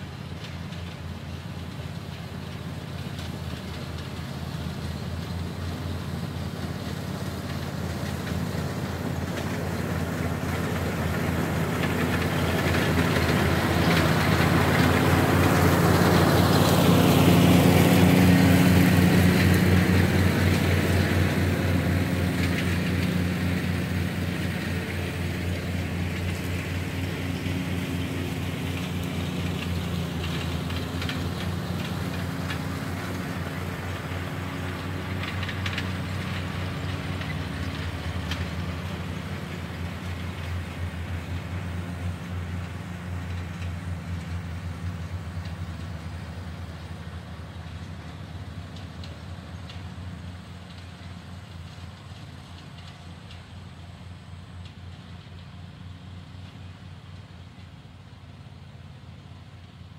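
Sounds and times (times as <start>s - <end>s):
vehicle engine passing by: 2.9s - 51.9s.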